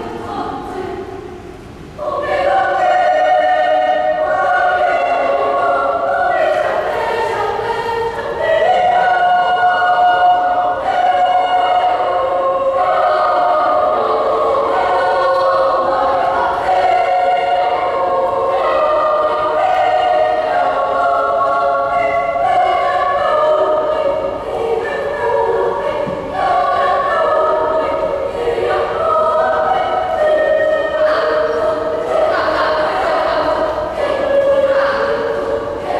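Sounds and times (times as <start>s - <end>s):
choir singing: 0.0s - 35.9s.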